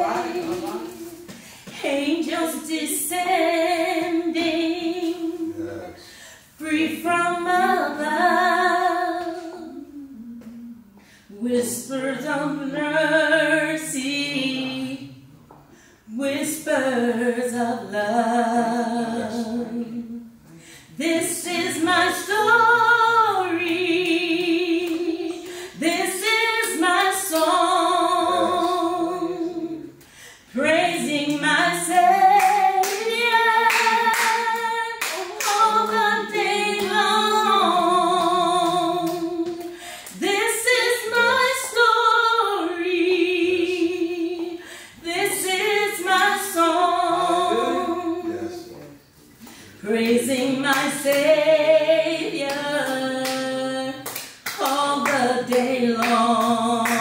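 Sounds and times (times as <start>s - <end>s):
woman singing unaccompanied: 0.0s - 5.6s, 6.6s - 15.2s, 16.1s - 20.3s, 21.0s - 48.3s, 49.8s - 57.0s.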